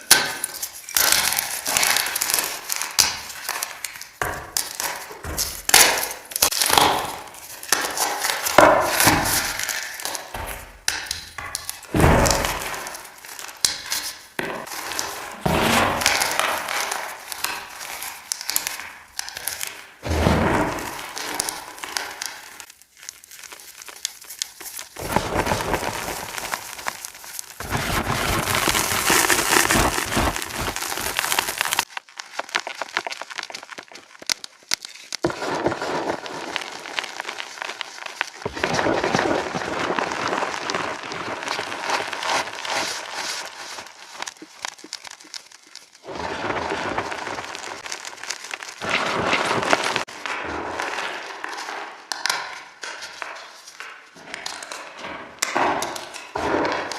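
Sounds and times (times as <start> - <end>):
chalk crushing crackling: 0.0 - 54.8.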